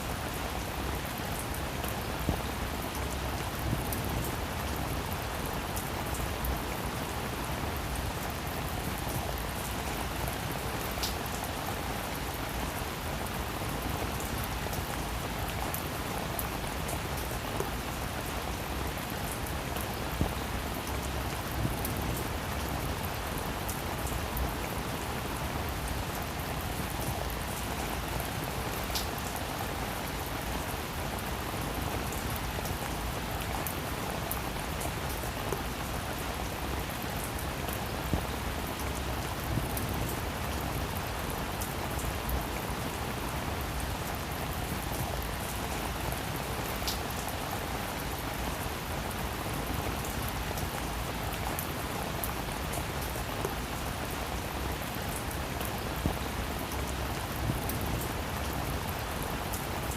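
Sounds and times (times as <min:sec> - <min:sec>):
rain hissing on roof: 0:00.0 - 0:59.9.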